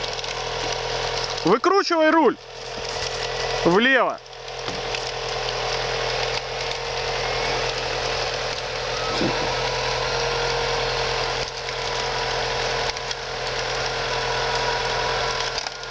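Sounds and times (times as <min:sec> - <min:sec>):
vehicle winch whining under load: 0:00.0 - 0:15.9.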